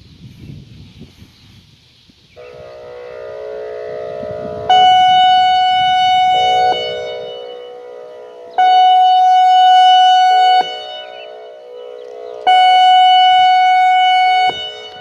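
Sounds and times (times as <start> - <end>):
loud higher siren tone: 2.4 - 15.0
siren chord of steady tones: 2.4 - 15.0.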